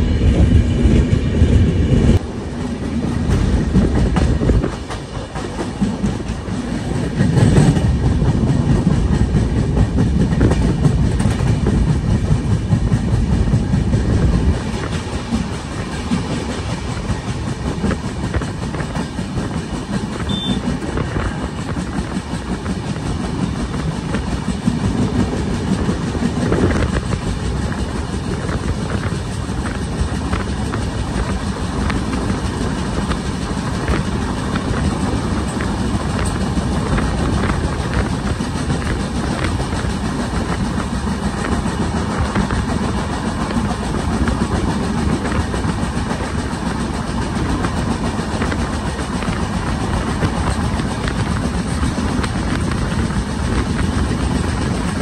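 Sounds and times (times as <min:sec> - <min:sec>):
rushing wind: 0:00.0 - 0:55.0
train wheels rumbling on rails: 0:00.0 - 0:55.0
wheels clicking over rail joints: 0:02.6 - 0:55.0.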